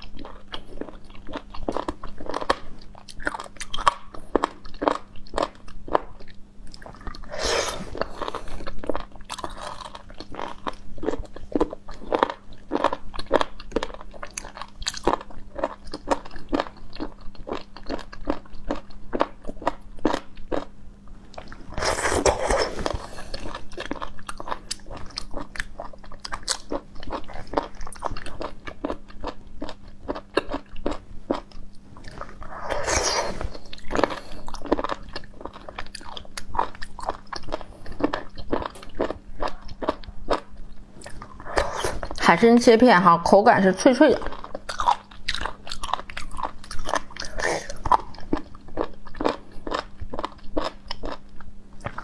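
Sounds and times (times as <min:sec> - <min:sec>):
crisp chewing crunches: 0:00.0 - 0:20.7, 0:21.3 - 0:42.3, 0:44.2 - 0:52.0.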